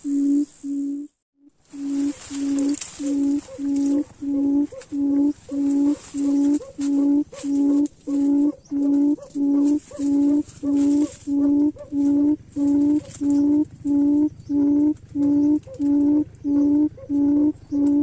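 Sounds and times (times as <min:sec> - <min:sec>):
quail low hooting: 0:00.0 - 0:18.0.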